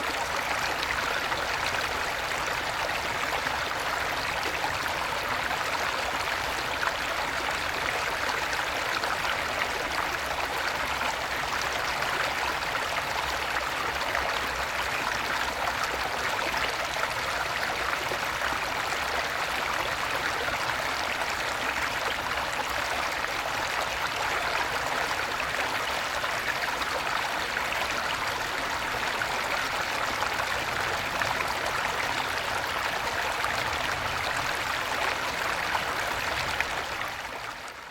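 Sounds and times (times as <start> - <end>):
stream water babbling: 0.0 - 37.9.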